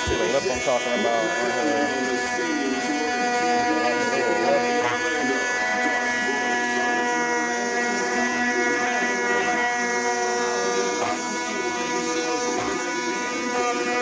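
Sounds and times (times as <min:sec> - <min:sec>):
orbital sander buzzing: 0:00.0 - 0:14.0.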